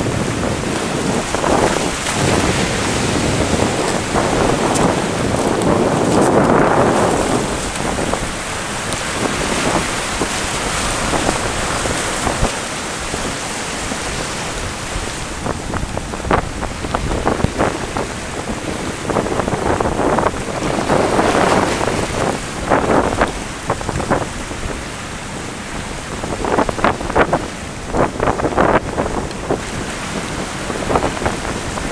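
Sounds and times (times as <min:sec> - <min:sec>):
sea surf breaking over rocks: 0:00.0 - 0:31.9
wind buffeting microphone: 0:00.0 - 0:31.9.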